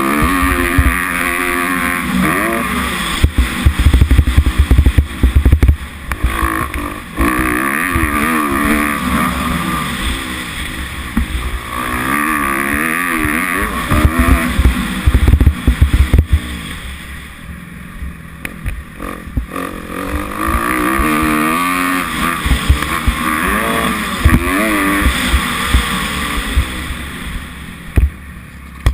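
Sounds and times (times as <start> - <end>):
dirt bike engine revving: 0.0 - 28.6.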